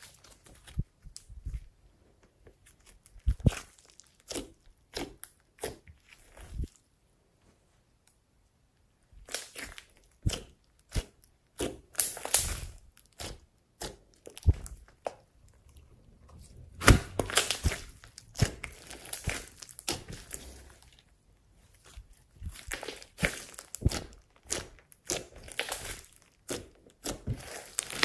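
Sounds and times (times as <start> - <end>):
slime squishing and crackling: 0.0 - 6.8, 9.1 - 28.0.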